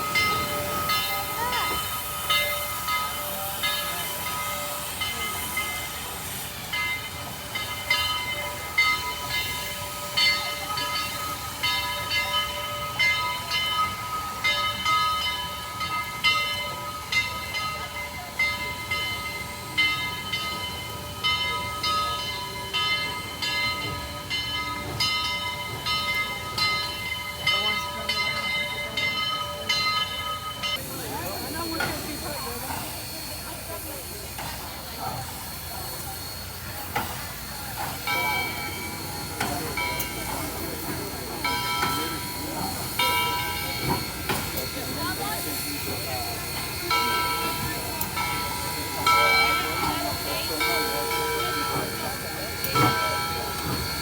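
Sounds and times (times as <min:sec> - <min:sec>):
locomotive puffs: 0:00.0 - 0:54.0
locomotive whine and hiss: 0:00.0 - 0:54.0.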